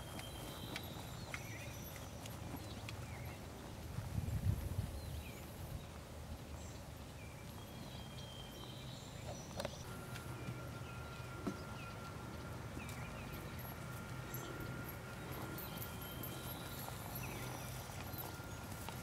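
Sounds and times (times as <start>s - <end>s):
hoofbeats on grass: 0.0s - 19.0s.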